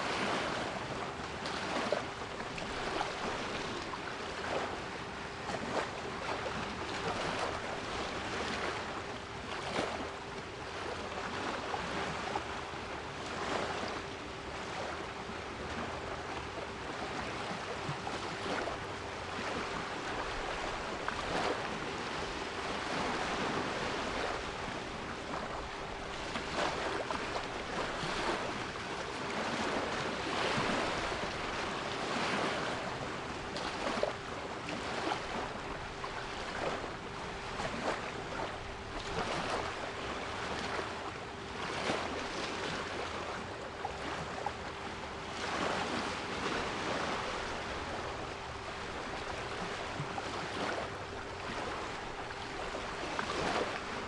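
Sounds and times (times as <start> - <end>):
sea waves washing in: 0.0 - 54.0.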